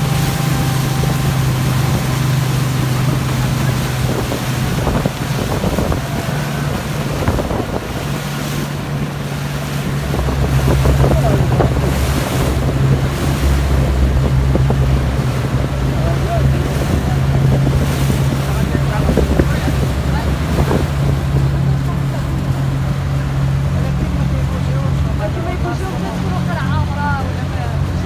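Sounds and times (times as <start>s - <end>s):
deeper engine tone: 0.0s - 28.0s
speedboat engine running: 0.0s - 28.0s
water rushing against hull: 0.0s - 28.0s
wind buffeting microphone: 0.0s - 28.0s.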